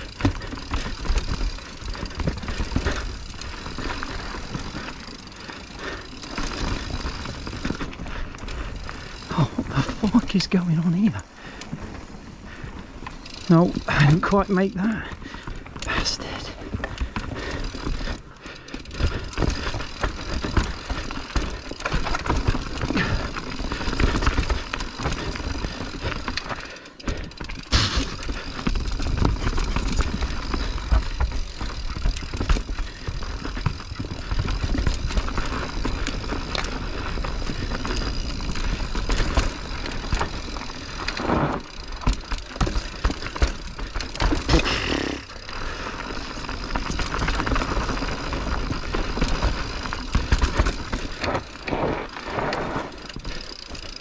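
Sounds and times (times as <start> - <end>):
bike chain and frame rattling: 0.0 - 54.0
bike tyres on dirt and rock: 0.0 - 54.0.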